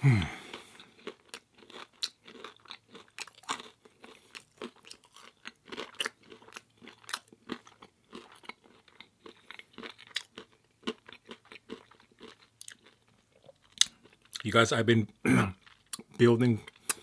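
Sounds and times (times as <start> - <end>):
crunchy chewing: 0.4 - 14.4, 15.5 - 17.0.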